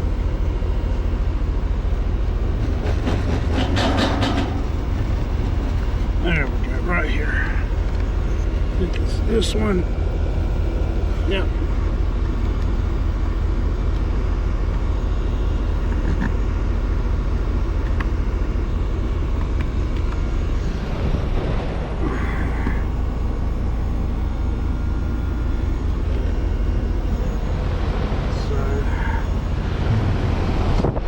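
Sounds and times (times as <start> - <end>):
air conditioning unit drone: 0.0 - 31.0.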